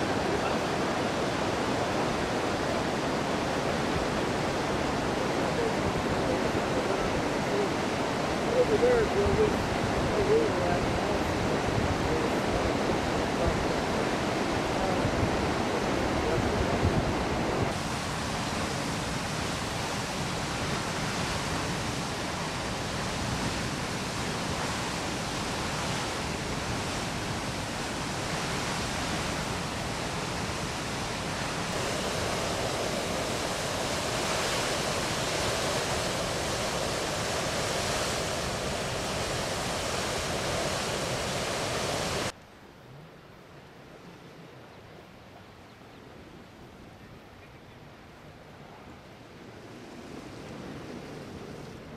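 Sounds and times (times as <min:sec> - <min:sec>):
heavy rush of water: 0:00.0 - 0:47.2, 0:47.9 - 0:51.9.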